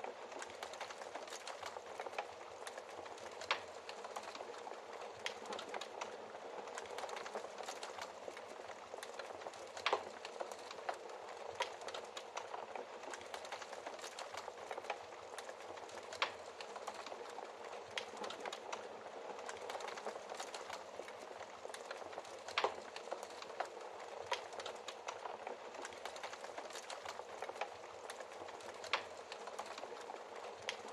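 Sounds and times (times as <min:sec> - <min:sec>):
wood fire crackling: 0:00.0 - 0:30.9
fire popping: 0:00.2 - 0:30.9.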